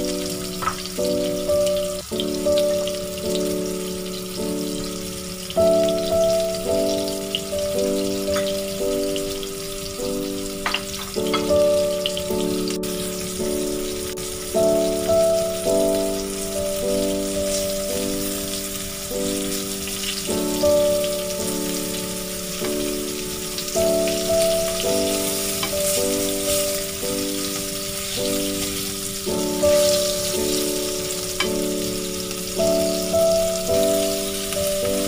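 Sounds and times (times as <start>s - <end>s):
background music of held chords: 0.0s - 35.0s
fish frying in oil: 0.0s - 35.0s.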